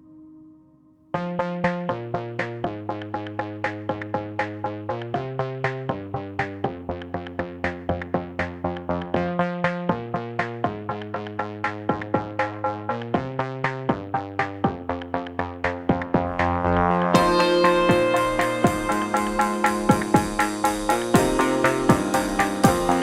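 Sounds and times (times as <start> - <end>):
electronic music with synthesizer: 1.1 - 23.0.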